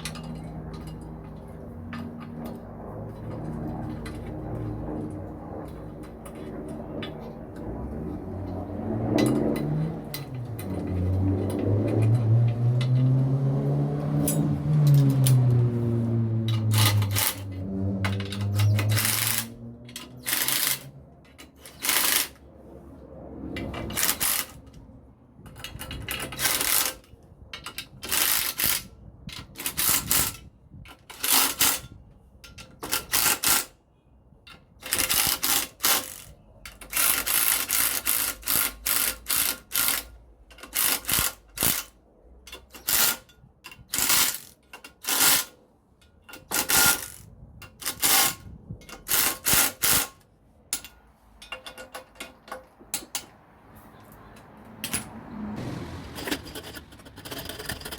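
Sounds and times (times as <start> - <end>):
hand tools clicking and clanking: 0.0 - 4.8, 8.5 - 22.4, 23.6 - 33.8, 34.4 - 57.9.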